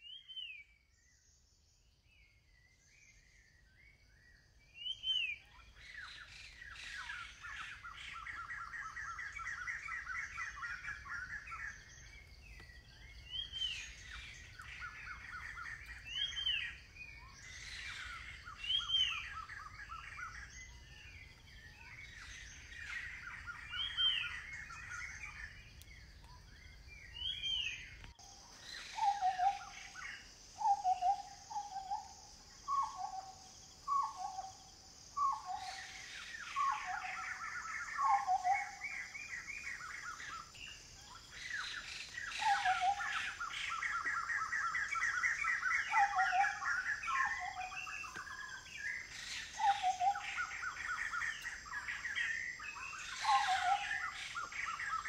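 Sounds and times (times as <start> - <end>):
bird trills and chirps: 4.7 - 55.0
high insect drone: 5.5 - 55.0.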